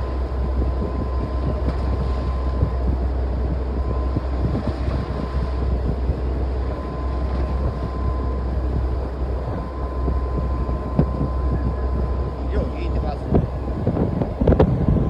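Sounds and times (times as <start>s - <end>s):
boat engine droning: 0.0s - 15.0s
faint steady whine: 0.0s - 15.0s
rough sea rushing along hull: 0.0s - 15.0s
wind buffeting microphone: 0.0s - 15.0s.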